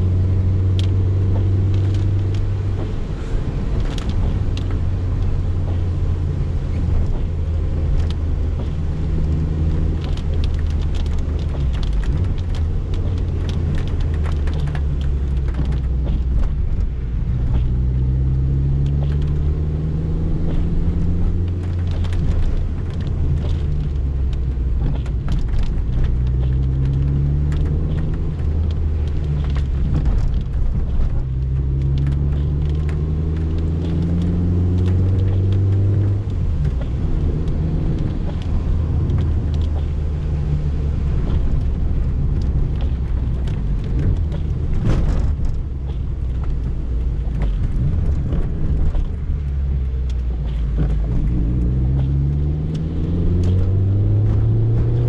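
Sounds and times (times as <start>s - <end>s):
car engine accelerating: 0.0s - 55.0s
rain on car: 0.0s - 55.0s.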